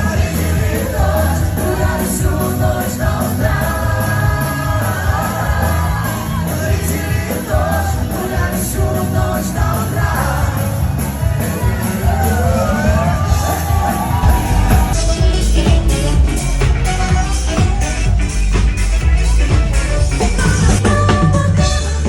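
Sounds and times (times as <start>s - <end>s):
band playing pop-rock song: 0.0s - 22.0s
steady drum beat: 0.0s - 22.0s.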